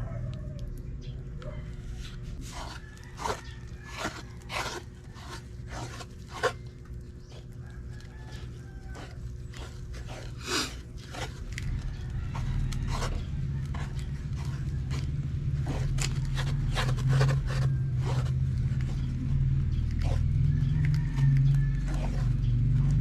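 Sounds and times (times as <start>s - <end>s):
steady low hum: 0.0s - 23.0s
scraping or crunching strokes: 1.8s - 23.0s.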